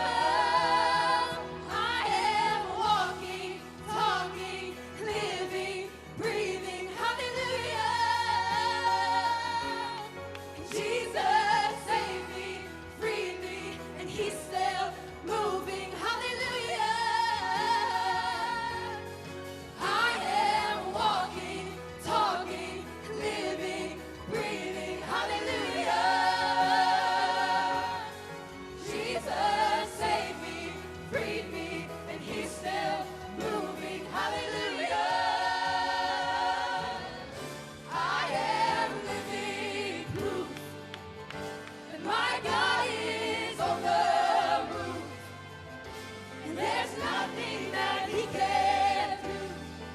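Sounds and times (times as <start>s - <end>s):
group of voices singing: 0.0s - 41.2s, 41.8s - 45.6s, 46.4s - 49.9s.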